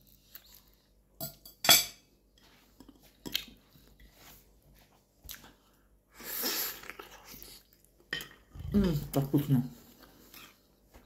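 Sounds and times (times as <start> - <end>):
quiet chewing: 0.0 - 1.0, 2.3 - 11.0.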